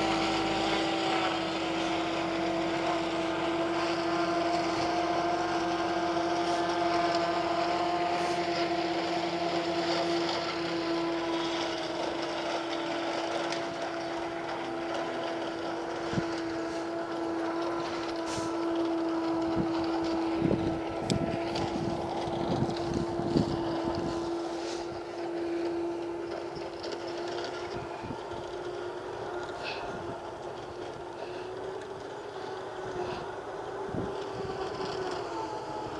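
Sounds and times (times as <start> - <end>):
distant harvester droning: 0.0 - 35.9.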